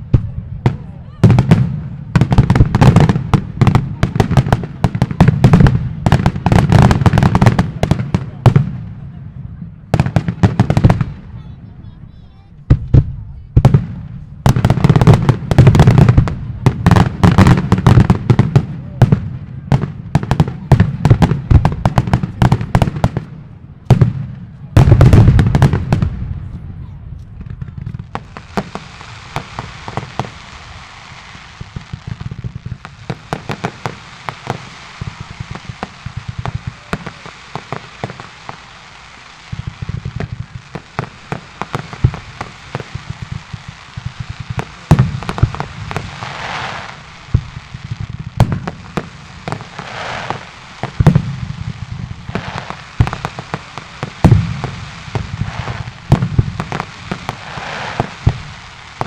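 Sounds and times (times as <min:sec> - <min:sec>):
fireworks bangs and booms: 0:00.0 - 0:59.0
fireworks crackle: 0:00.0 - 0:59.0.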